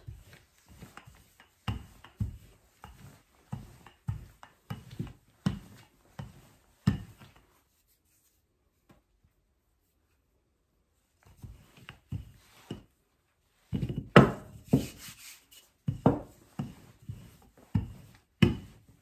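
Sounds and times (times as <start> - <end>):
rolling pin rolling dough: 0.0 - 8.4, 11.0 - 19.0.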